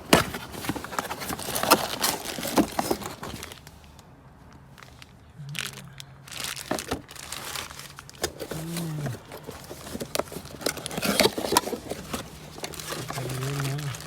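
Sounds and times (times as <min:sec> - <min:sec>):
plastic packaging crinkling: 0:00.0 - 0:04.0, 0:04.8 - 0:14.0.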